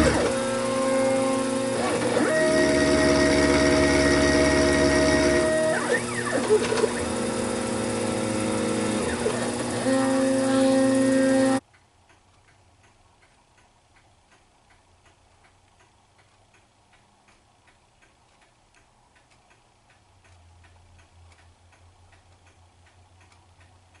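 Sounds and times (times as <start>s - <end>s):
faint even ticking: 0.0s - 24.0s.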